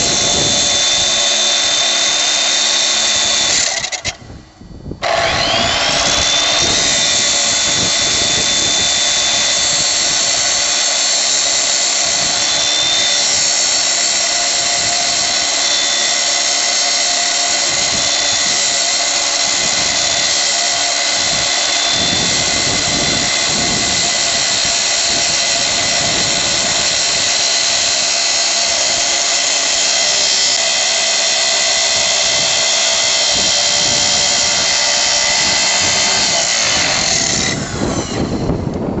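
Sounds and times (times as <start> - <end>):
power tool motor whining: 0.0 - 39.0.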